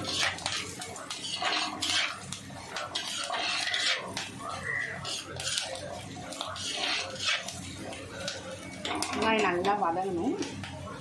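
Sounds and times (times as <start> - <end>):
food sizzling in hot oil: 0.0 - 9.5
spoon scraping pot: 0.0 - 9.7.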